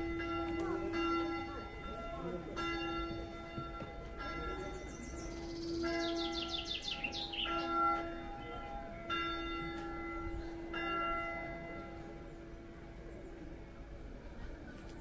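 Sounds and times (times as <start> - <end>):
church bell ringing: 0.0 - 14.0.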